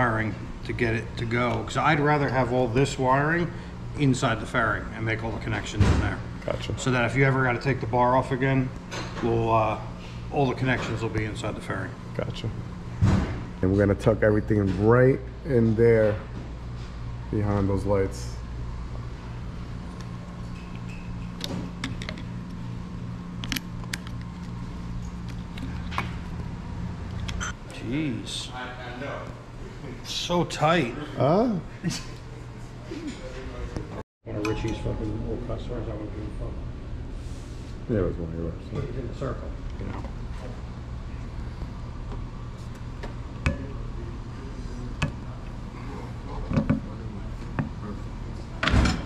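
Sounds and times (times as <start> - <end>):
low pulsing machine hum: 0.0 - 49.0.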